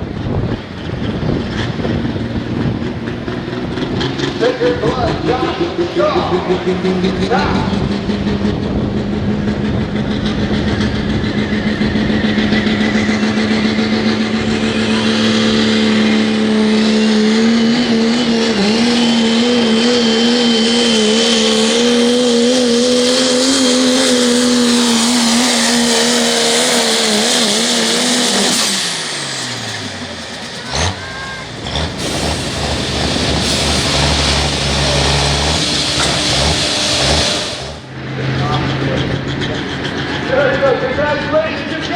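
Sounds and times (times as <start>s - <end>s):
truck engine at full throttle: 0.0s - 41.9s.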